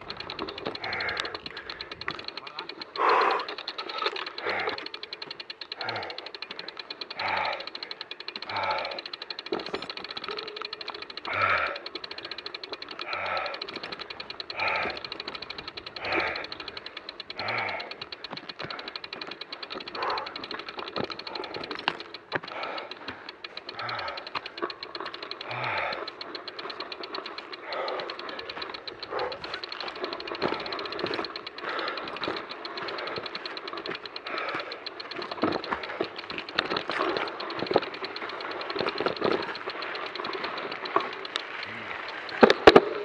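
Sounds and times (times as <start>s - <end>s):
bicycle freewheel ticking: 0.0s - 43.0s
person panting and groaning: 0.2s - 42.2s.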